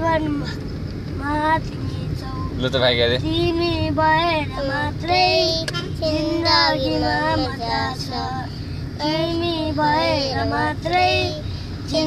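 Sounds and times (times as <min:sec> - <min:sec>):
moving car rumble: 0:00.0 - 0:12.0.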